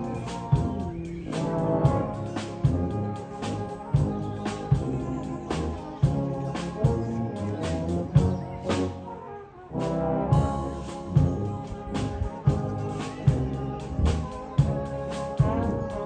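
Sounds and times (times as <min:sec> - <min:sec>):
drum beats: 0:00.0 - 0:09.2, 0:09.8 - 0:16.0
brass band playing: 0:00.0 - 0:16.0.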